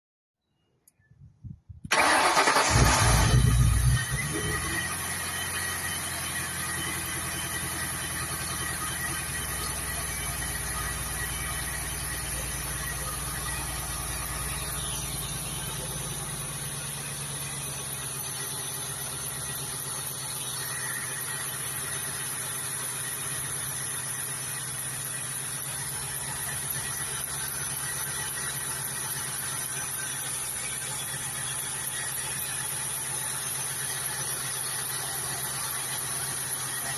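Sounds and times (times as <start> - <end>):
car engine idling: 1.9 - 36.9.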